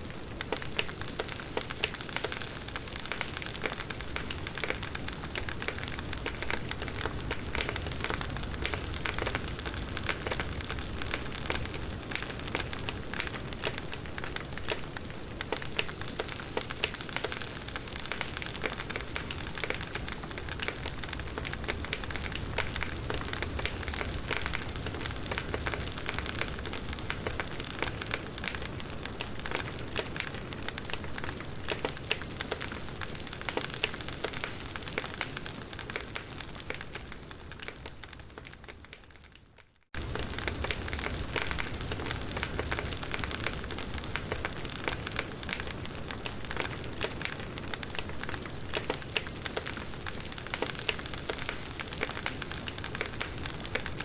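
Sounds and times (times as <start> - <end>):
campfire crackling and popping: 0.0 - 54.0
low rumble of flames: 0.1 - 39.0, 40.0 - 54.0.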